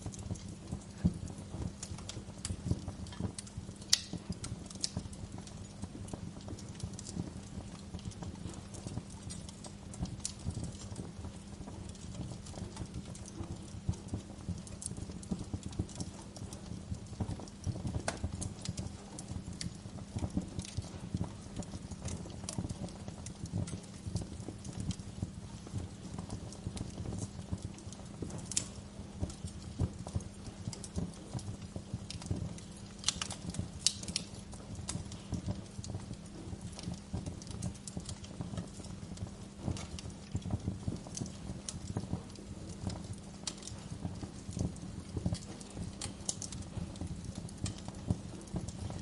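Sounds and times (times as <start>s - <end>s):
wood fire crackling: 0.0s - 49.0s.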